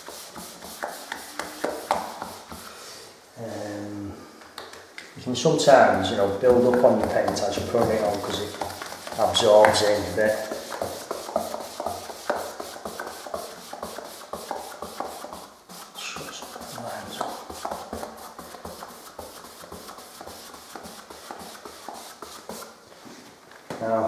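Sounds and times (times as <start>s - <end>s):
paintbrush swishing on wall: 0.0s - 3.8s, 5.6s - 23.3s.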